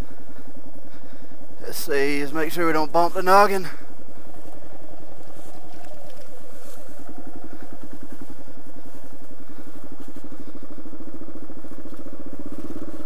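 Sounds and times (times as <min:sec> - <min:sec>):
motorcycle engine chugging: 0:00.0 - 0:13.0.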